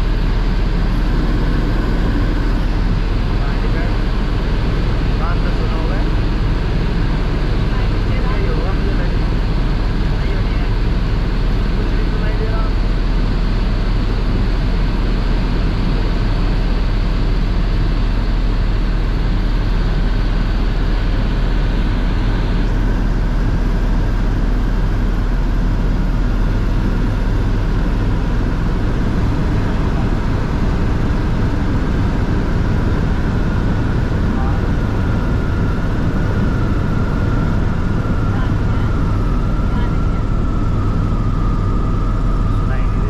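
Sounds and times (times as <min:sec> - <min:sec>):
helicopter rotor and engine drone: 0:00.0 - 0:43.0.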